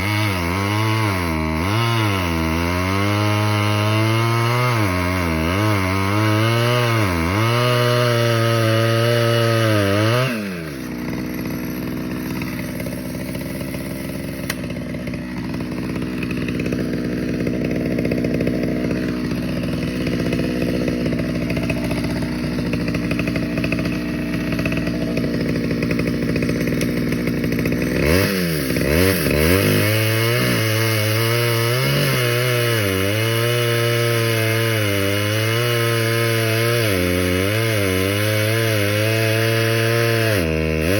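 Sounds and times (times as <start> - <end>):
chainsaw cutting logs: 0.0 - 40.9
chainsaw idling: 0.0 - 40.9.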